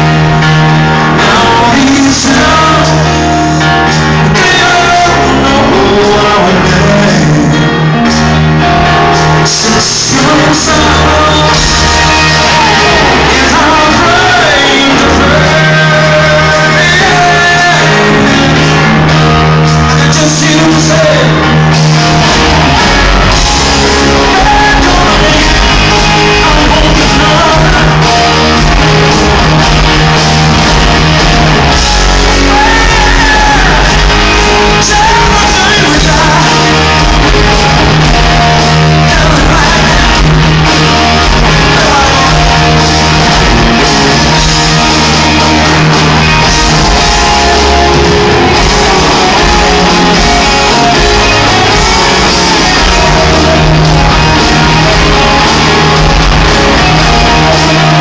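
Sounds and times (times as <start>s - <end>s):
bass guitar: 0.0s - 58.0s
electric guitars: 0.0s - 58.0s
man singing: 0.0s - 58.0s.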